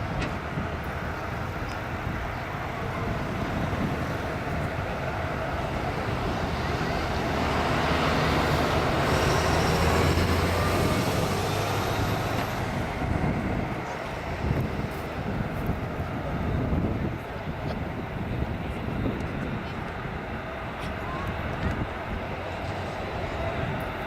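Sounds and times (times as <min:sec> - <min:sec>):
jet airliner flyover rumble: 0:00.0 - 0:24.0.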